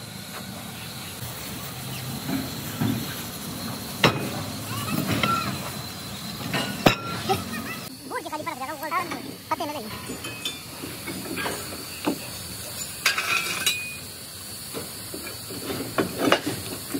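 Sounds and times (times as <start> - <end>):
steady background noise: 0.0 - 16.9.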